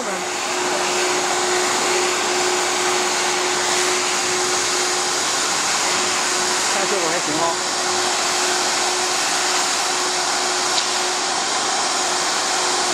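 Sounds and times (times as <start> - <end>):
cnc router whine: 0.0 - 12.9
vacuum suction rushing: 0.0 - 12.9.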